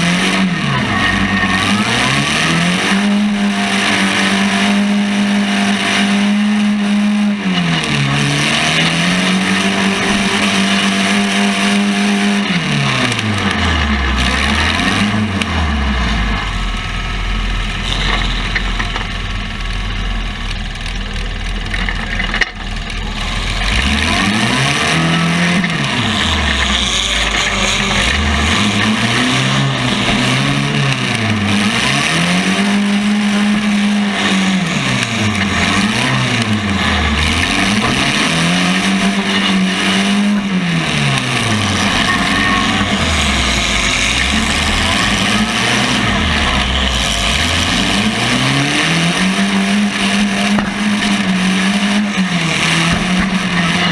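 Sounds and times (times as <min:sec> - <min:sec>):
tractor engine revving: 0:00.0 - 0:53.9.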